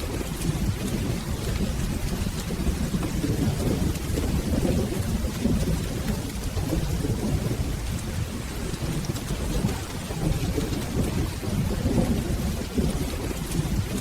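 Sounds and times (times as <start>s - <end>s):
rolling thunder rumble: 0.0s - 14.0s
steady rain: 0.0s - 14.0s.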